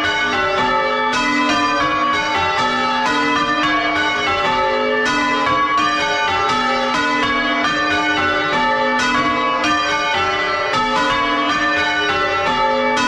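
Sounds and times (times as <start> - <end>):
church bells change ringing: 0.0 - 13.0.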